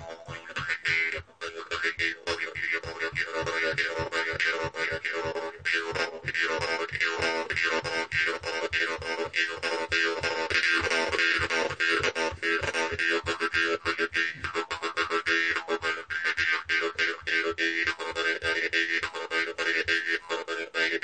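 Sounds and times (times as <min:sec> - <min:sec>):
jew's harp twanging: 0:00.0 - 0:21.0.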